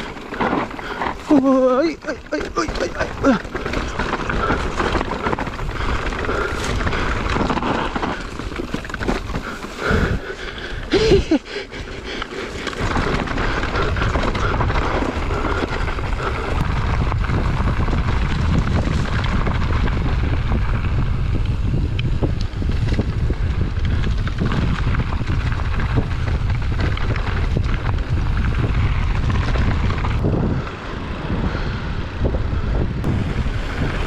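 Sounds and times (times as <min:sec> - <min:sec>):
tyres rolling over dirt trail: 0:00.0 - 0:34.0
wind buffeting microphone: 0:00.0 - 0:34.0.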